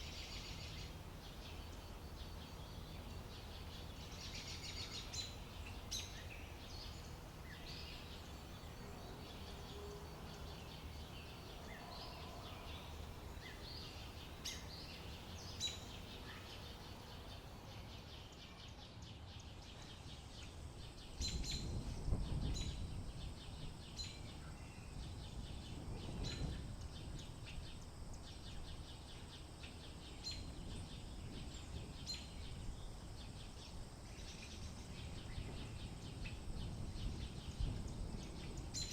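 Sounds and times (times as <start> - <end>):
background hiss: 0.0 - 38.9
small birds chirping: 0.0 - 38.9.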